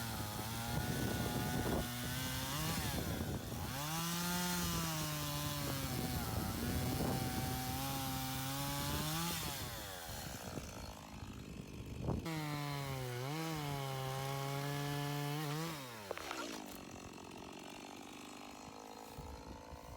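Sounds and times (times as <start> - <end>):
chainsaw cutting logs: 0.0 - 19.9.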